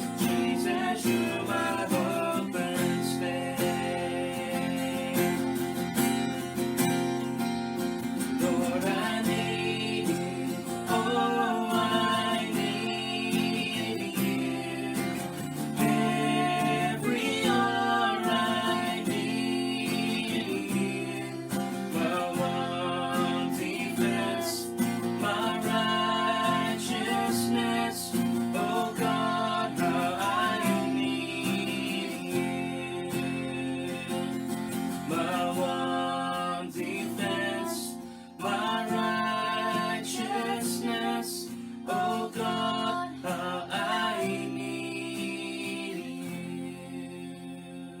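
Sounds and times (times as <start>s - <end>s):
person singing: 0.0s - 5.5s, 8.4s - 34.4s, 35.0s - 48.0s
acoustic guitar strumming: 0.0s - 47.9s.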